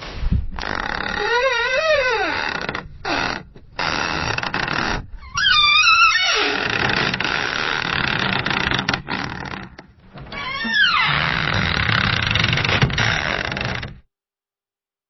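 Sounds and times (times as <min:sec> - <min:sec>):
door hinges creaking: 0:00.6 - 0:14.0.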